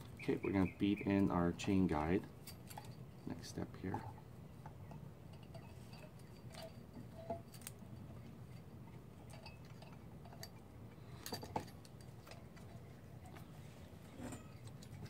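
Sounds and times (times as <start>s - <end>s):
metallic clinks on engine parts: 0.4s - 13.5s.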